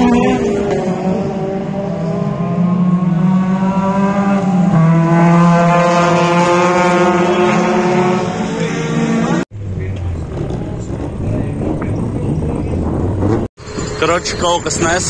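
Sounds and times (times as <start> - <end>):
car engine at high revs: 0.0 - 13.9.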